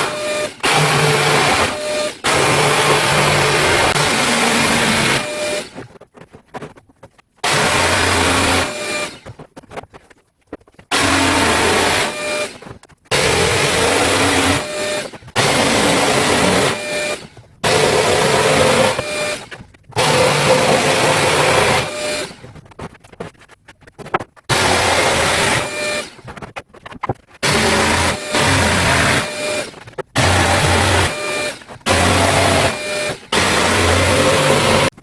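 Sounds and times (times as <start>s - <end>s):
router cutting wood: 0.0s - 5.8s, 7.4s - 9.3s, 10.9s - 22.4s, 24.5s - 26.3s, 27.4s - 35.0s.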